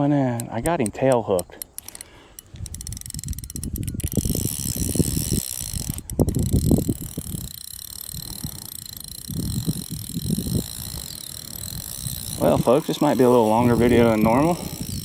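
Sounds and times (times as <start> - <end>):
fishing reel clicking: 0.1 - 15.0.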